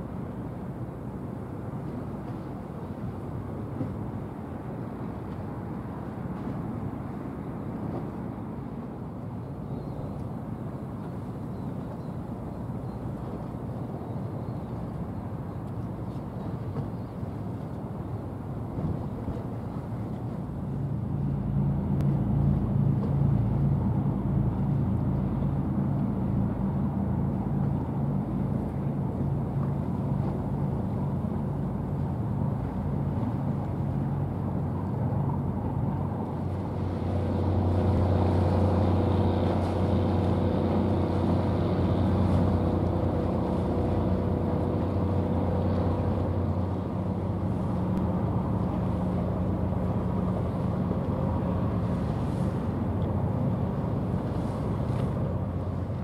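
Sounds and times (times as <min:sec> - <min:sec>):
ship engine hum: 0:00.0 - 0:56.0.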